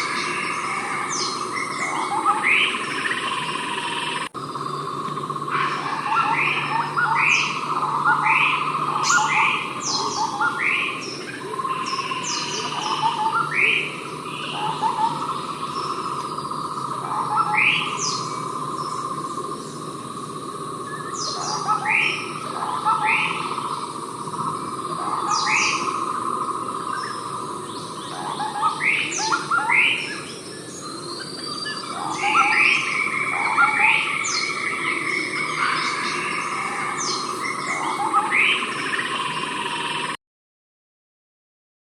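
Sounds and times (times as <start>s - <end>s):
bird calling: 0.0s - 40.2s
insects droning: 0.0s - 40.2s.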